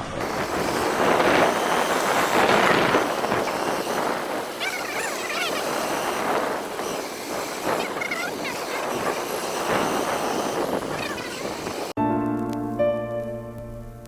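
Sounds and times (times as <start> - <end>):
waterfall roaring: 0.0 - 11.9.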